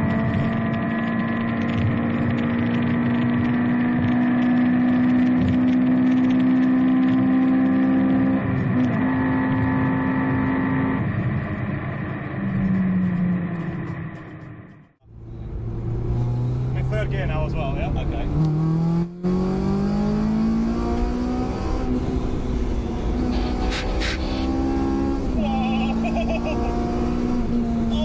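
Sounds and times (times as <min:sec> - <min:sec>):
car engine at high revs: 0:00.0 - 0:14.5, 0:15.2 - 0:28.0.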